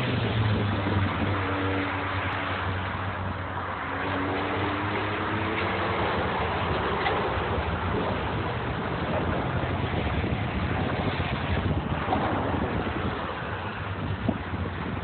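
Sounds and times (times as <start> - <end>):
sports cars driving past: 0.0 - 15.0
wind buffeting microphone: 0.0 - 15.0.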